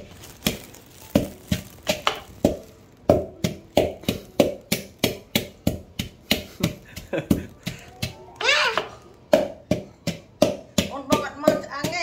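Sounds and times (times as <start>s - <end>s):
wooden pestle pounding in bowl: 0.0s - 12.0s.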